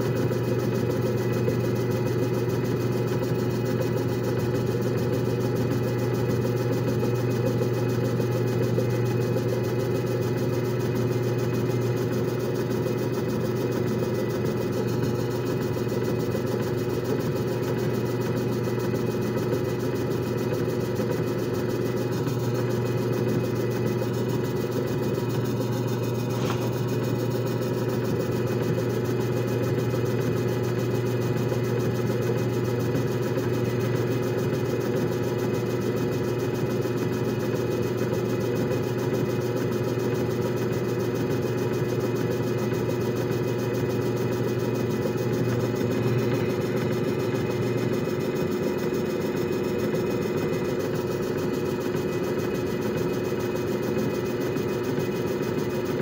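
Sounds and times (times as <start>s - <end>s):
machine motor hum and whir: 0.0s - 56.0s.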